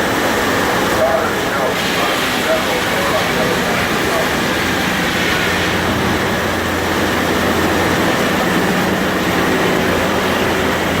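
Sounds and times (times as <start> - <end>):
sawmill machinery din: 0.0 - 11.0.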